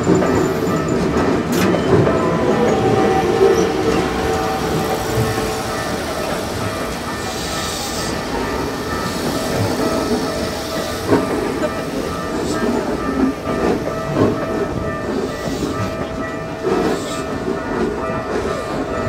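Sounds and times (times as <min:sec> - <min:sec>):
electric train rumbling: 0:00.0 - 0:19.0
train wheels clacking on rail joints: 0:00.0 - 0:19.0.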